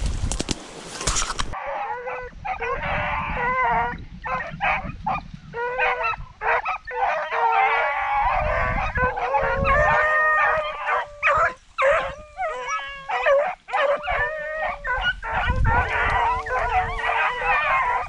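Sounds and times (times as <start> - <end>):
wind noise: 0.0 - 18.0
beagles baying: 1.6 - 18.0.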